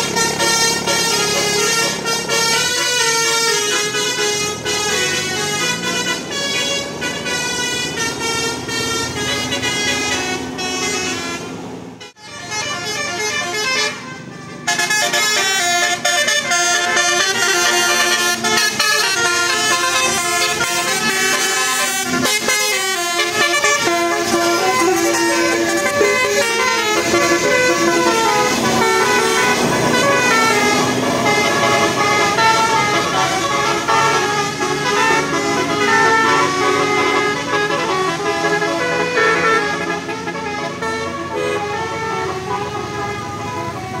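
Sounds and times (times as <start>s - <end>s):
bus air horns playing a tune: 0.0s - 44.0s.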